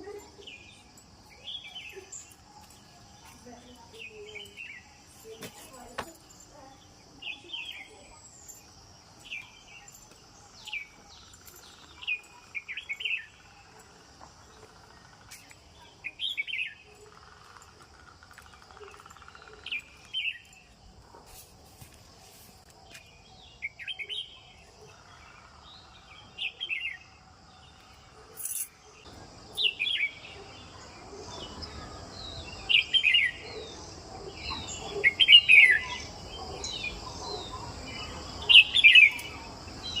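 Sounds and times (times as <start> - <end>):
bird chirping: 0.0 - 20.9, 22.8 - 40.0
insects droning: 0.0 - 40.0.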